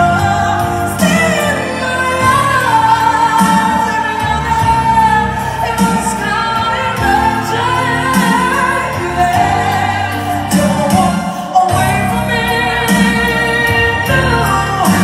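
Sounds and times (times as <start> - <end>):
instrumental backing music: 0.0 - 15.0
woman singing into microphone: 0.0 - 15.0.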